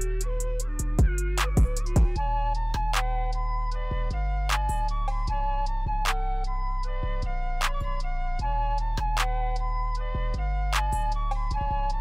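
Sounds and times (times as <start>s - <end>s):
flute-like melody: 0.0s - 12.0s
percussive beat: 0.0s - 12.0s
steady bass: 0.0s - 12.0s.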